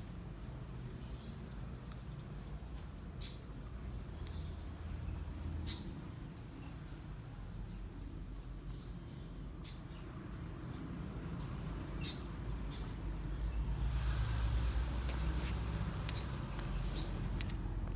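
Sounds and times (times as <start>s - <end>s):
birds chirping: 3.2s - 17.7s.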